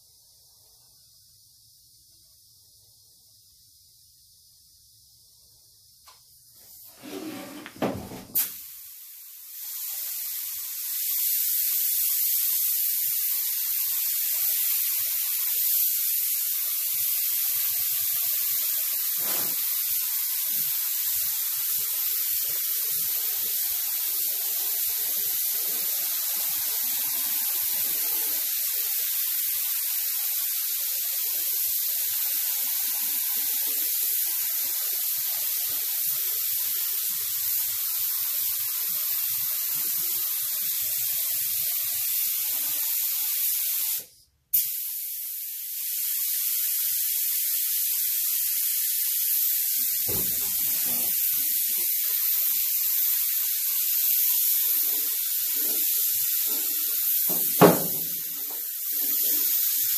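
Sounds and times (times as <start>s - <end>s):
paint spray gun hissing: 0.0s - 59.9s.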